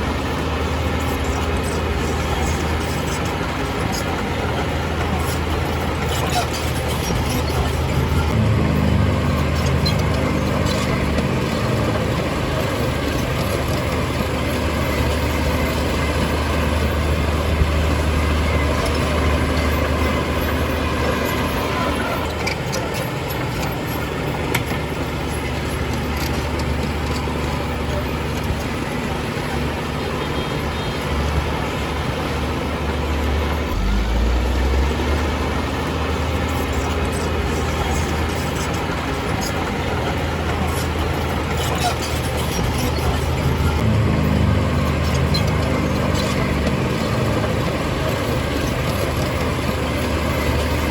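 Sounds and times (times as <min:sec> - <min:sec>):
heavy diesel engine running: 0:00.0 - 0:50.9.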